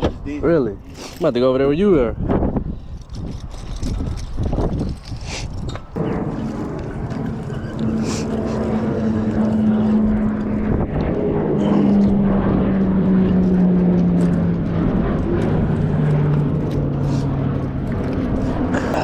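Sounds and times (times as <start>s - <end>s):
propeller aircraft engine drone: 0.0s - 19.0s
wind noise: 0.0s - 19.0s.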